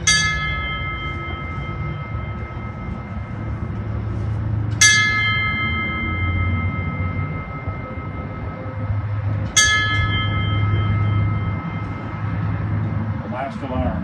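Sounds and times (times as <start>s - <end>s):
bell ringing: 0.0s - 13.2s.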